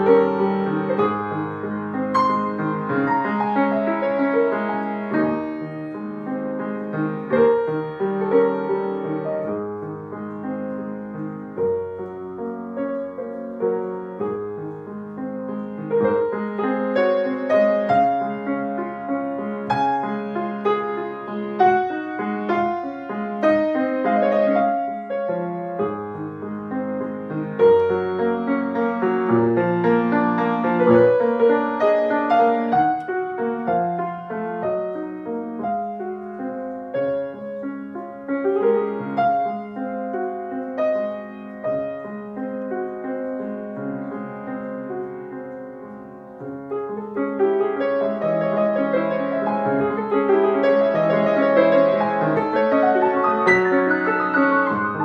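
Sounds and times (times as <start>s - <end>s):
solo piano: 0.0s - 55.0s.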